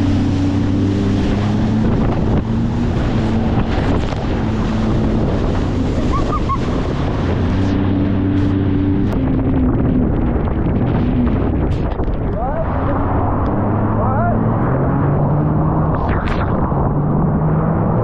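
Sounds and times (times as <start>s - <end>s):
boat engine humming: 0.0s - 18.0s
wind on microphone: 0.0s - 18.0s.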